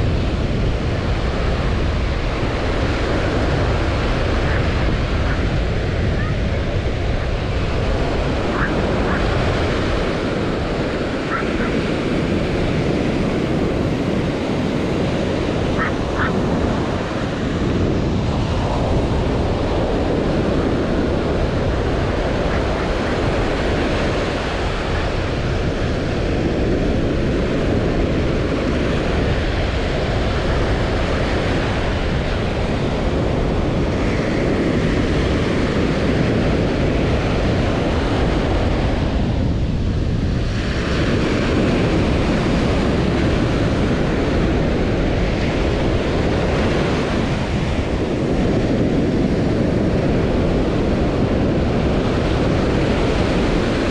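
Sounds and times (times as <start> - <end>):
waves breaking on a beach: 0.0 - 53.9.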